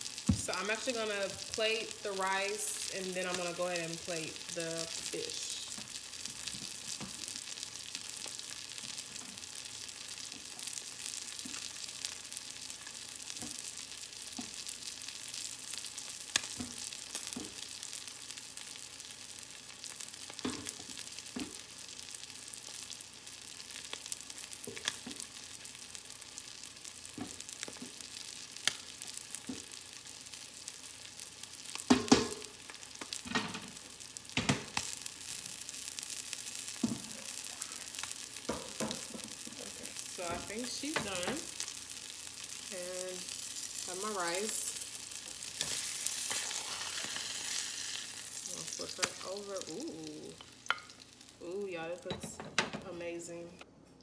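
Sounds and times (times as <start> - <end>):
fish sizzling in oil: 0.0 - 52.2.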